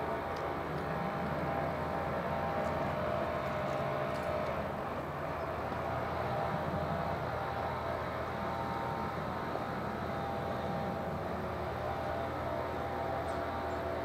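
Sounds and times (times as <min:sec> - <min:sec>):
electric train rumble and hum: 0:00.0 - 0:14.0.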